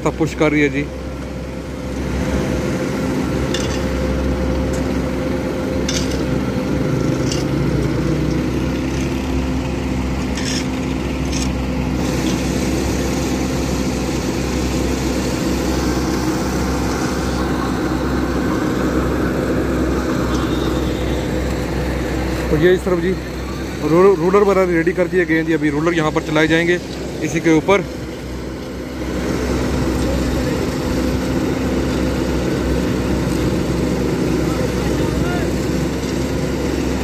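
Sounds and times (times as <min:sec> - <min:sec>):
heavy diesel engines running: 0:00.0 - 0:37.0.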